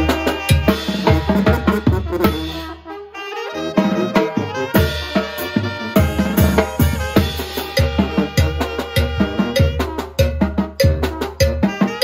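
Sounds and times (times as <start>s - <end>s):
sharp drum strokes: 0.0s - 2.4s, 4.1s - 12.0s
brass band playing: 0.0s - 12.0s.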